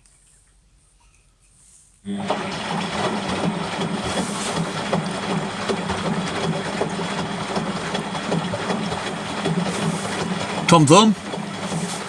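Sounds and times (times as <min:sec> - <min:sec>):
washing machine spinning: 0:02.1 - 0:12.0.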